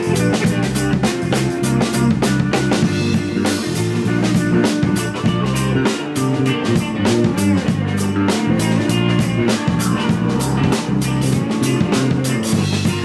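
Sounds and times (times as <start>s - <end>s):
drum kit beat: 0.0s - 13.0s
electric bass: 0.0s - 13.0s
electric guitar: 0.0s - 13.0s.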